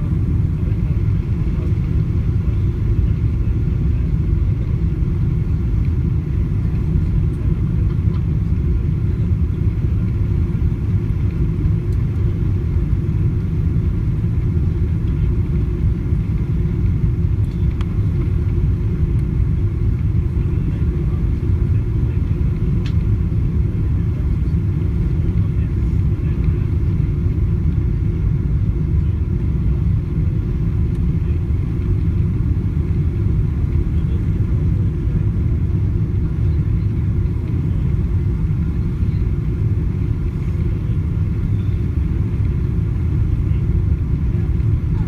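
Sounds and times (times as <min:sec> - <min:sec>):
airliner cabin rumble: 0:00.0 - 0:45.0
faint steady hum: 0:00.0 - 0:45.0.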